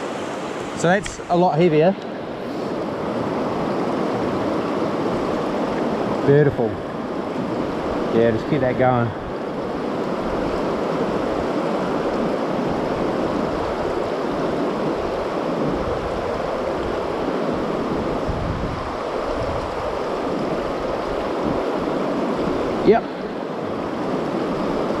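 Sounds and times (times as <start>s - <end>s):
river current rushing: 0.0s - 25.0s.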